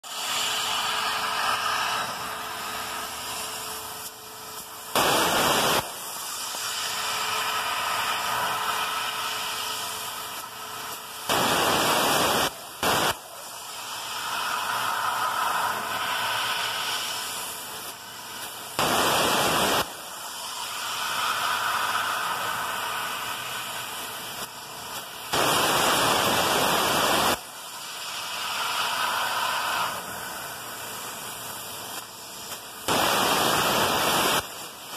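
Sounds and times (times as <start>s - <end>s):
plasma cutter arc hissing: 0.0s - 34.9s
steady air hiss: 0.1s - 34.9s.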